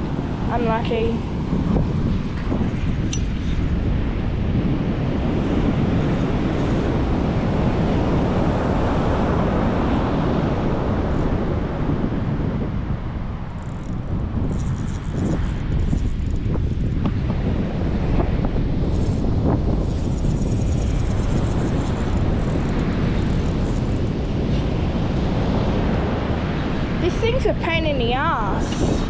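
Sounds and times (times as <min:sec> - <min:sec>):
ocean surf washing: 0:00.0 - 0:29.0
wind buffeting microphone: 0:00.0 - 0:29.0.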